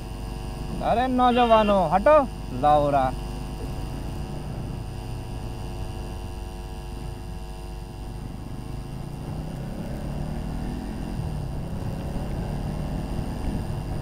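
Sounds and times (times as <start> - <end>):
motorcycle engine hum: 0.0 - 14.0.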